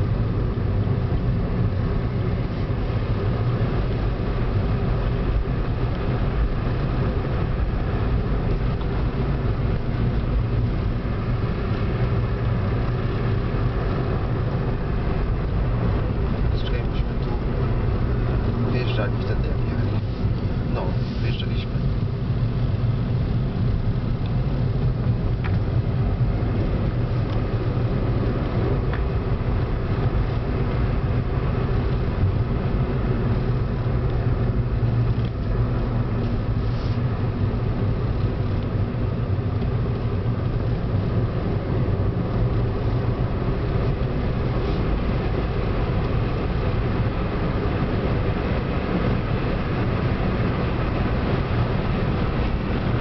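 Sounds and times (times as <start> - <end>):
car cabin road rumble: 0.0 - 53.0.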